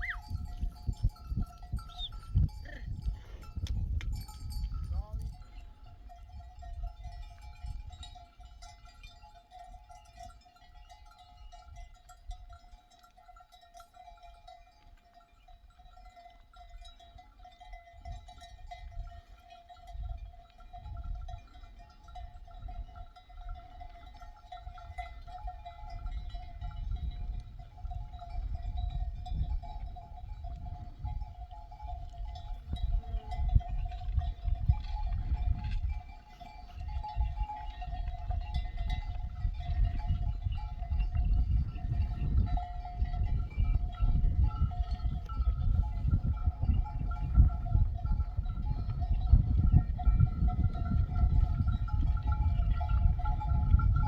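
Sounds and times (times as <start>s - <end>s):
wind rumble on microphone: 0.0s - 12.8s, 16.1s - 54.0s
sheep bells clinking: 0.0s - 54.0s.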